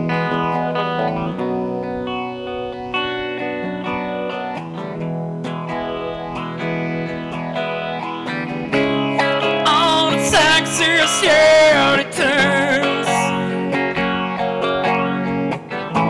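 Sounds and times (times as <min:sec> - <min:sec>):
guitar with chorus effect chords: 0:00.0 - 0:16.0.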